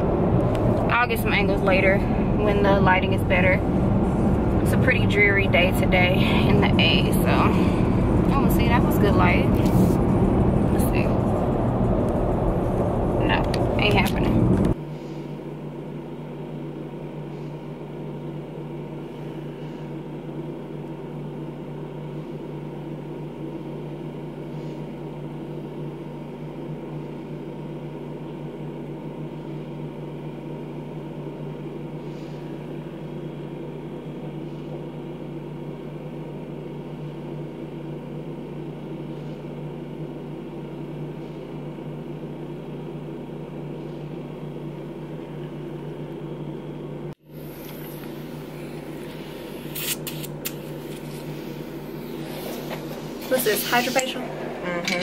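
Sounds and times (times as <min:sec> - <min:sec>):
vacuum pump humming: 0:00.0 - 0:55.0.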